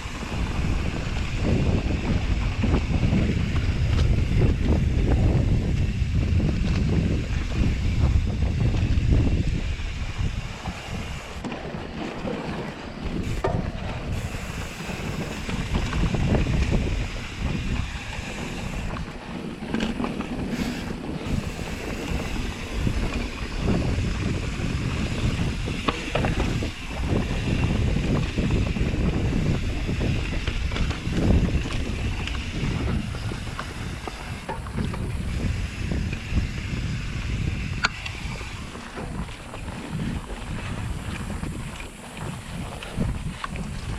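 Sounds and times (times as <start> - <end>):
bike clicks and rattles: 0.0 - 43.9
bike tyres rolling on dirt: 0.0 - 43.9
wind buffeting microphone: 0.0 - 43.9.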